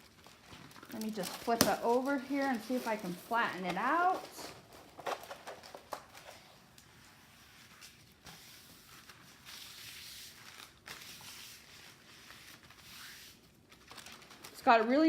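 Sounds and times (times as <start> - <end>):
canvas rustling by hand: 0.0 - 15.0.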